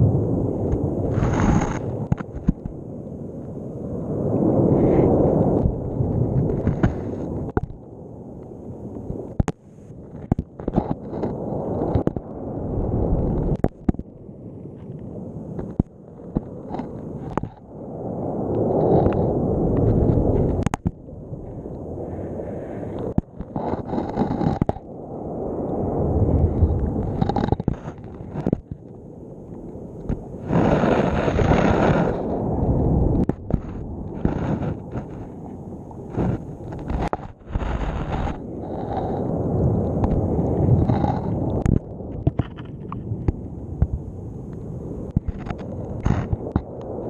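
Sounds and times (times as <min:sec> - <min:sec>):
camera knocking and scraping on seabed: 0:00.0 - 0:03.5, 0:04.3 - 0:17.8, 0:18.4 - 0:25.0, 0:25.6 - 0:47.0.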